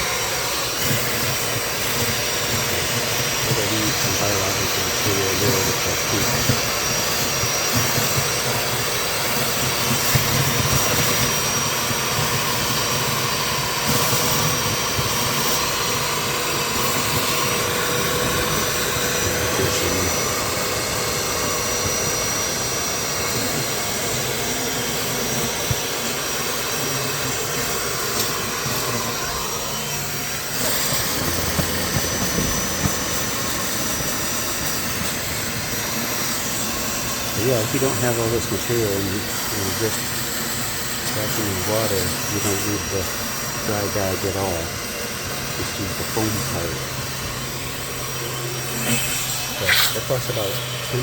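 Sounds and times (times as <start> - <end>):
shop vac whining: 0.0 - 51.0.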